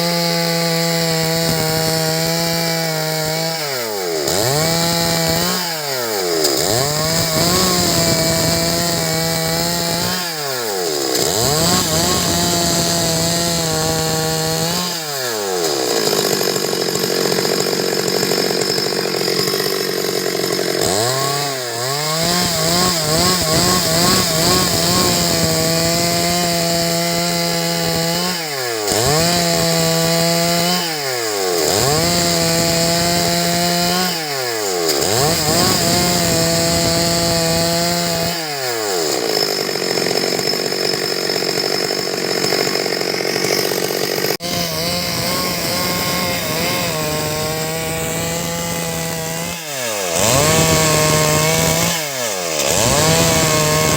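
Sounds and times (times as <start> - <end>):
chainsaw sawing wood: 0.0 - 53.9.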